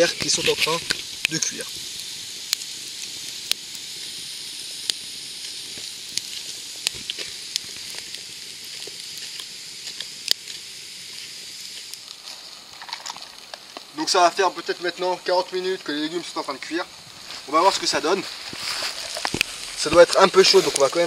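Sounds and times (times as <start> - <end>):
campfire crackles and pops: 0.0 - 21.0
vegetables sizzling in a pan: 0.0 - 21.0.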